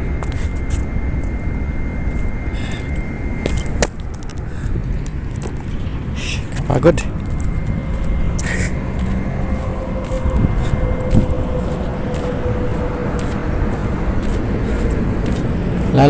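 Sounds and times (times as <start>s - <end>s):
faint steady hum: 0.0s - 16.0s
low rumbling outdoor noise: 0.0s - 16.0s.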